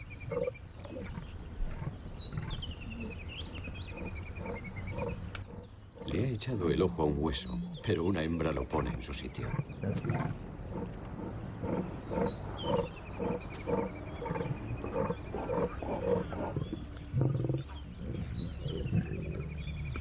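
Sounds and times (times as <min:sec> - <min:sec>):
birds chirping: 0:00.0 - 0:20.0
lions growling: 0:00.0 - 0:20.0.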